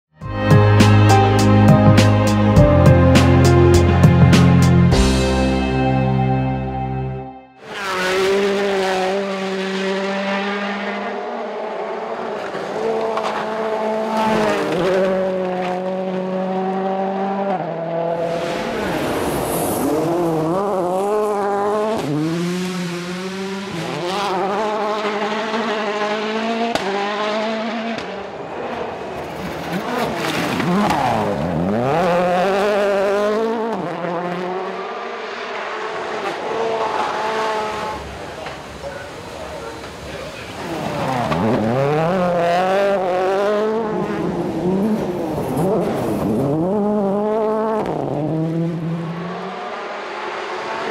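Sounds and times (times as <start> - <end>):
cars passing by: 7.6 - 50.9
rally car engines revving: 7.6 - 50.9.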